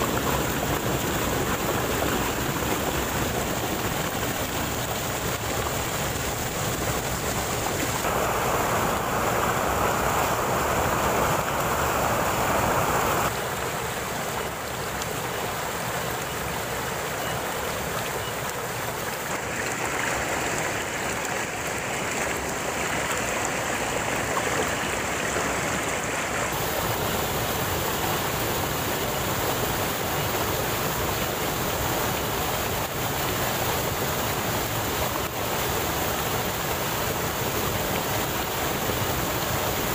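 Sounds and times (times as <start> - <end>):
water rushing down waterfall: 0.0 - 39.9.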